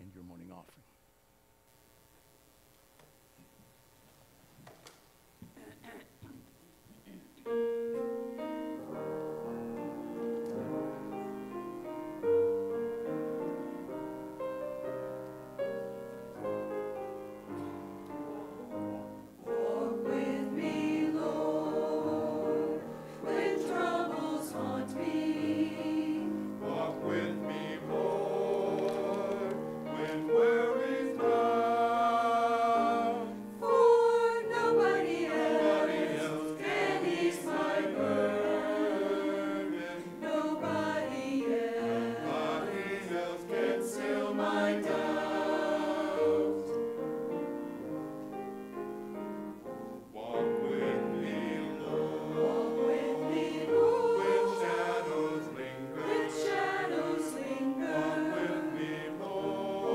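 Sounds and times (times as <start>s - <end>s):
choir singing: 7.5s - 48.0s, 50.0s - 59.9s.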